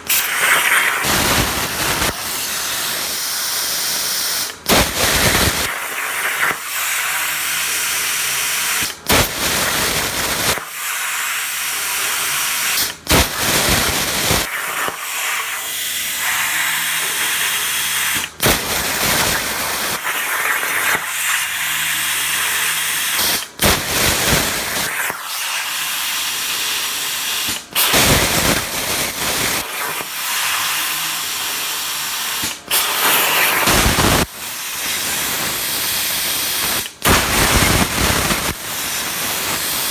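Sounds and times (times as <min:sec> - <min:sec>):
plasma cutter hissing: 0:00.0 - 0:39.9.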